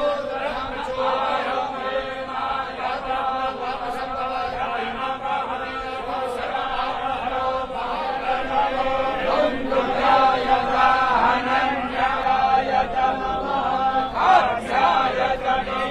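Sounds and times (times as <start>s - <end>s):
priests chanting: 0.0s - 15.9s.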